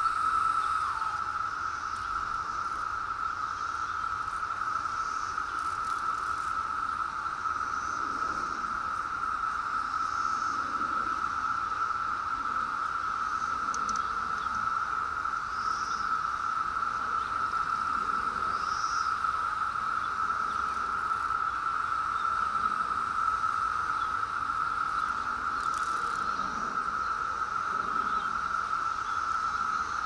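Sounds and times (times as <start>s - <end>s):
cicada chorus drone: 0.0s - 30.0s
higher cicada buzzes: 0.0s - 30.0s.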